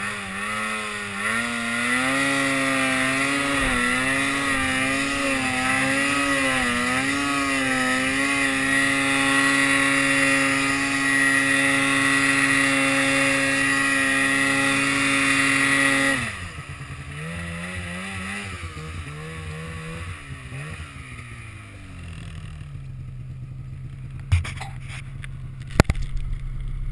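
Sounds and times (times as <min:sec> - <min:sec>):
snowmobile engine revving: 0:00.0 - 0:25.6.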